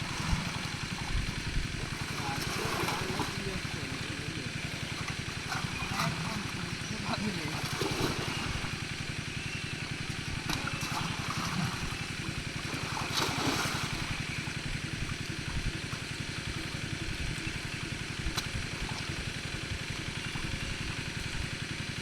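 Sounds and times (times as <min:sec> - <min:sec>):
small engine running: 0:00.0 - 0:22.0
water splashing and gurgling: 0:00.0 - 0:22.0.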